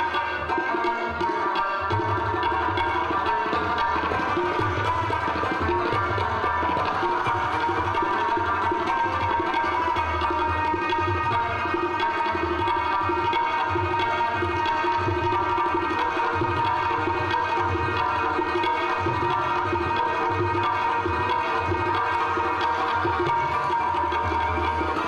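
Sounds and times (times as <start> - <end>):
tabla rhythm: 0.0 - 25.0.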